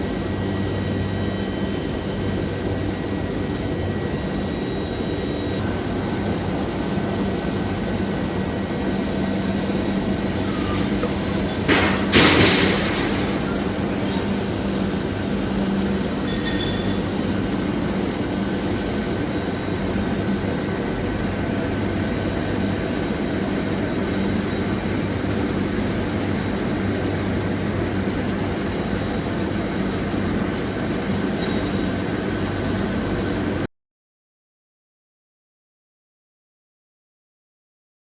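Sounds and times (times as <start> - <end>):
machinery hum and rushing: 0.0 - 33.7.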